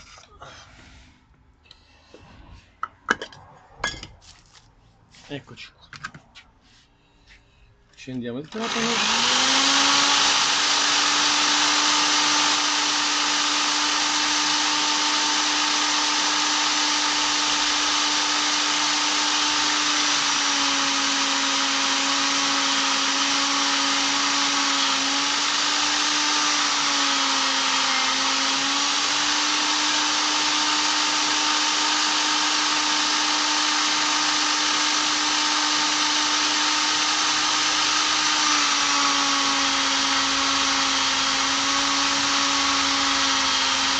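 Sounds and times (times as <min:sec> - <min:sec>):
electric drill whining: 0:08.5 - 0:43.9.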